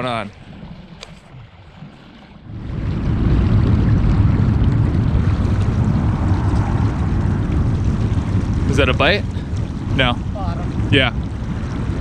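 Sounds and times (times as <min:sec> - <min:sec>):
mountain river flowing: 0:00.0 - 0:12.0
wind buffeting microphone: 0:00.0 - 0:12.0.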